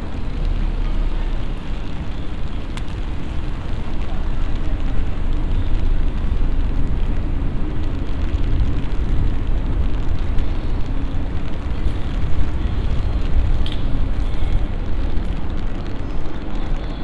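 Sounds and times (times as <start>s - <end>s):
low rumble: 0.0s - 17.0s
steady rain: 0.0s - 17.0s.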